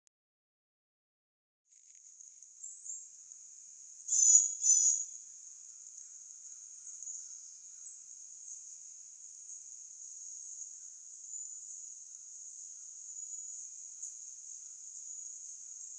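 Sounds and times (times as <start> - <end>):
insect chirps: 1.7 - 15.9
insects trilling: 2.0 - 15.9.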